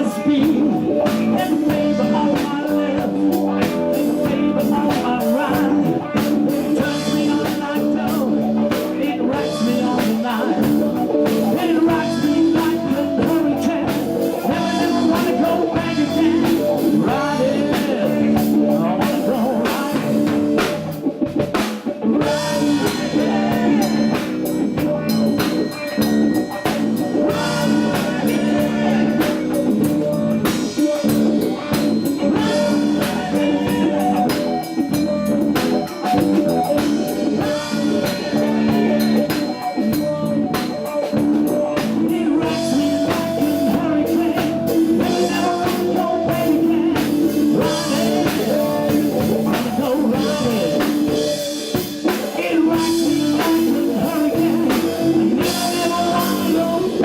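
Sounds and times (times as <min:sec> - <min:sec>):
live blues rock band: 0:00.0 - 0:57.0.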